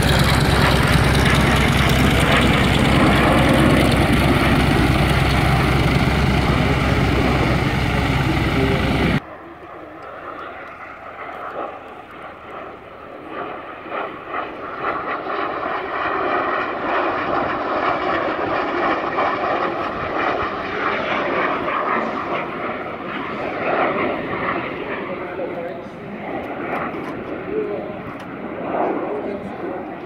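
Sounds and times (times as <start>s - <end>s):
jet engines roaring past: 0.0s - 30.0s.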